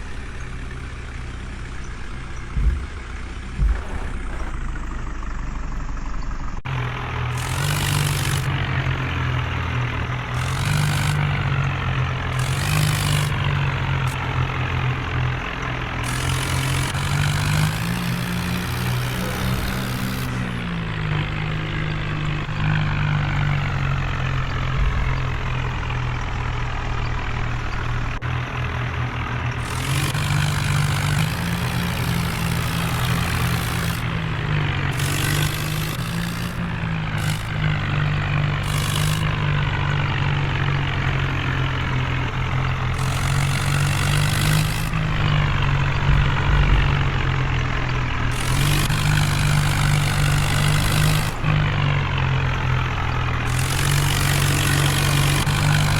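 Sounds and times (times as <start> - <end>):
tractor engine droning: 0.0 - 55.9.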